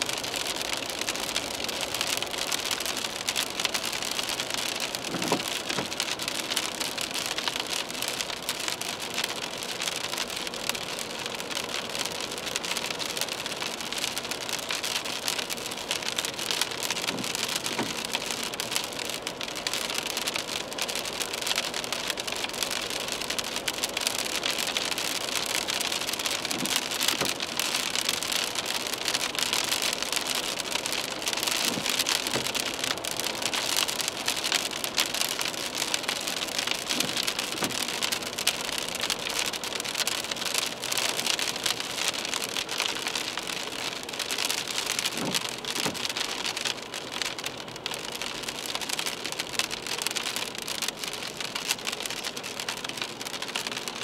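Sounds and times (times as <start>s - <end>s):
rain pattering on windshield: 0.0s - 54.0s.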